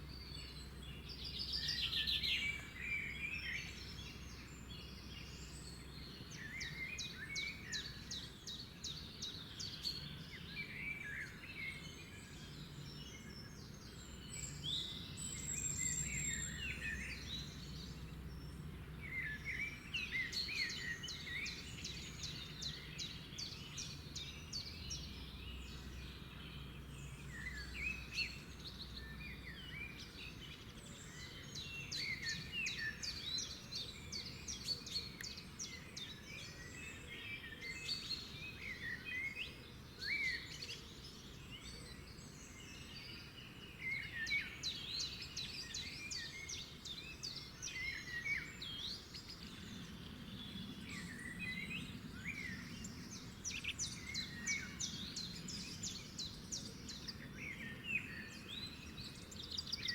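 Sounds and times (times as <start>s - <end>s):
wild birds singing and calling: 0.0s - 59.9s.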